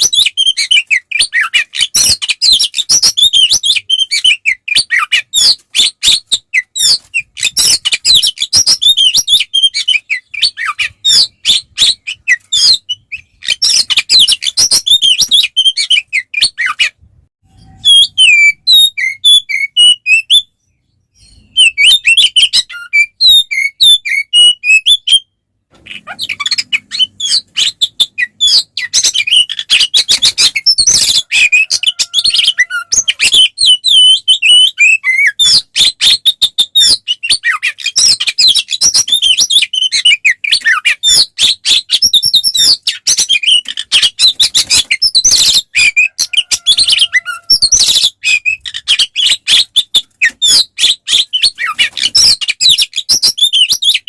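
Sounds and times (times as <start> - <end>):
bird singing rapid chirps: 0.0 - 16.9, 17.5 - 25.3, 25.9 - 54.0.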